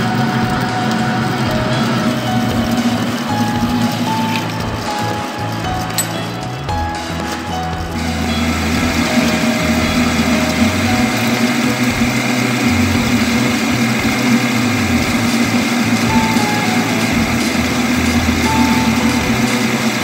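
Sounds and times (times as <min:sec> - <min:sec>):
metal lathe humming: 0:00.0 - 0:20.0.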